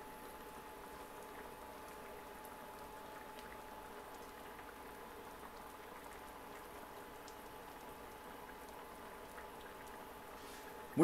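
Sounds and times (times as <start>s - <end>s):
faint steady whine: 0.0s - 11.0s.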